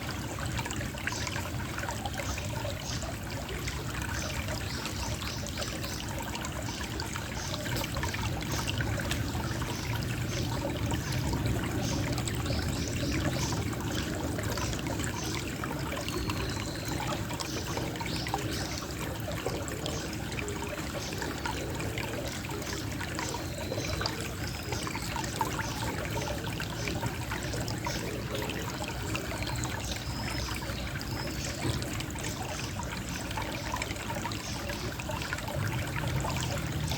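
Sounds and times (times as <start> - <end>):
water trickling: 0.0 - 36.9.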